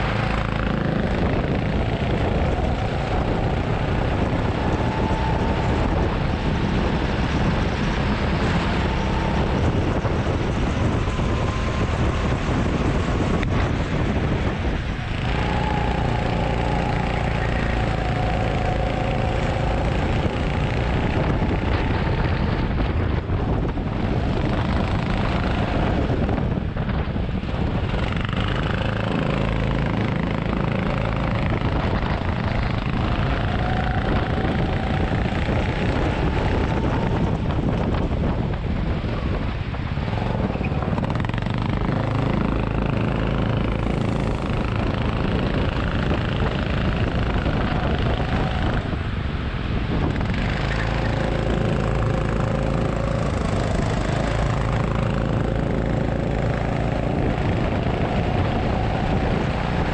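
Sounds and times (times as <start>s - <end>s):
go-kart engine racing: 0.0s - 59.9s
wind buffeting microphone: 0.0s - 59.9s.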